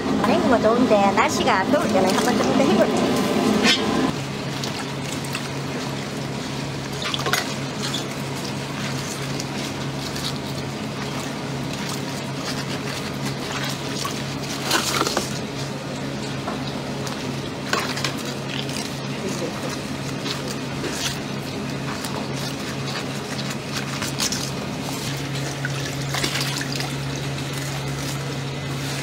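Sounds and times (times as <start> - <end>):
steady low hum: 0.0 - 29.0
water sloshing in a basin: 1.7 - 3.0, 4.4 - 29.0.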